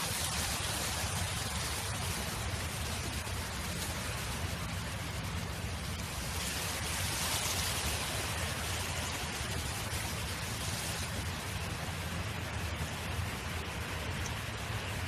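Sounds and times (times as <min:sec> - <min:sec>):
wind blowing: 0:00.0 - 0:15.0.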